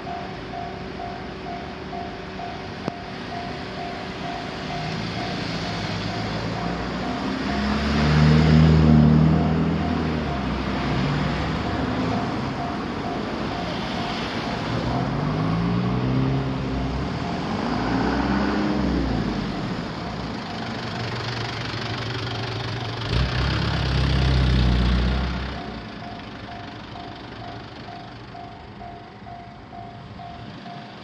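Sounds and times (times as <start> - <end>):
vehicle engines passing: 0.0 - 31.0.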